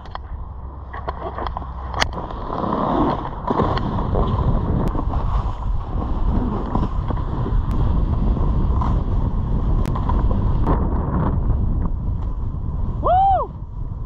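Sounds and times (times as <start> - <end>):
snowboard sliding over snow: 0.0 - 14.0
wind buffeting microphone: 0.0 - 14.0.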